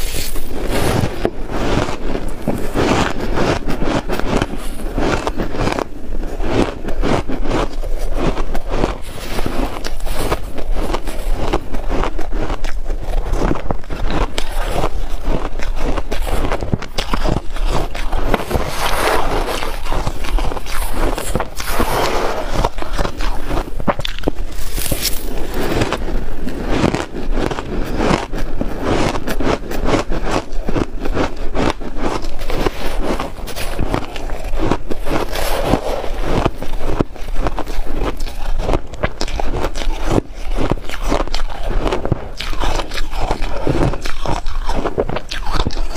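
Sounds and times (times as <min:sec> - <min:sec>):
chewing shaved ice: 0:00.0 - 0:45.9
metal spoon scraping ice: 0:00.0 - 0:45.9.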